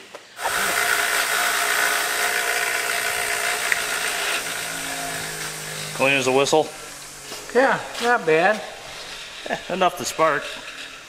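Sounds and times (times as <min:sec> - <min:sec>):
bench grinder motor humming: 0:00.4 - 0:09.6
wire brush scrubbing metal: 0:00.4 - 0:11.0.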